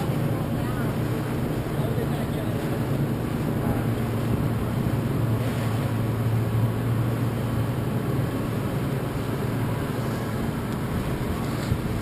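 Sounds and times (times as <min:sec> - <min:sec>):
motorboat engine humming: 0:00.0 - 0:12.0
wind and water hiss: 0:00.0 - 0:12.0.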